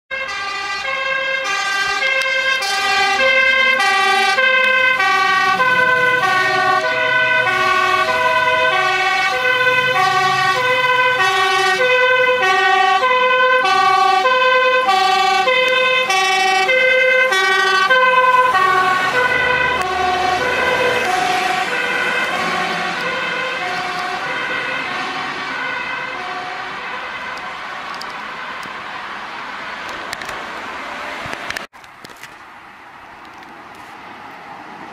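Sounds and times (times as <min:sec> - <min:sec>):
two-tone siren: 0:00.1 - 0:28.6
engine and road noise: 0:00.1 - 0:34.9.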